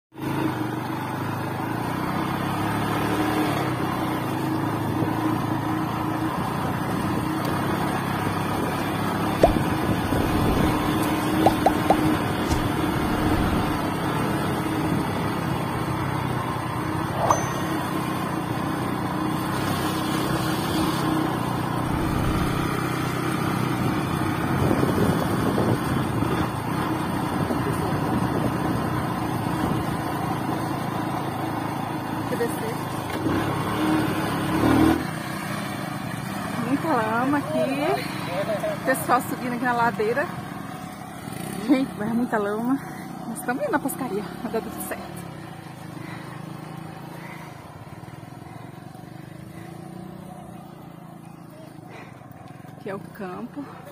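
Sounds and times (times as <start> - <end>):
motorcycle engine running: 0.2 - 53.9.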